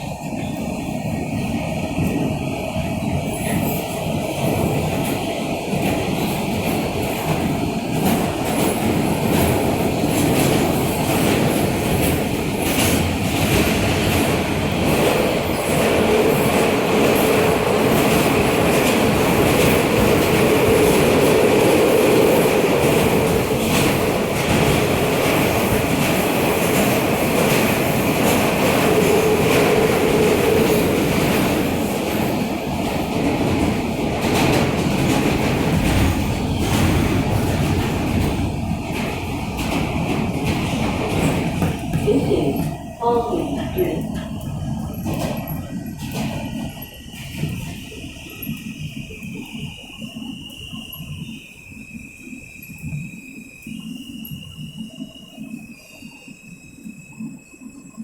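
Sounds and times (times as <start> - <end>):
subway wheels rumbling on rail: 0.0 - 58.0.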